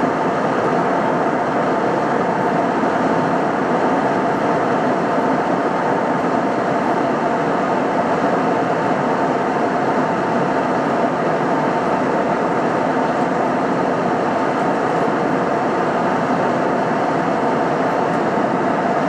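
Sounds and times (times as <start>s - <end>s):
airliner cabin engine and airflow noise: 0.0s - 19.0s.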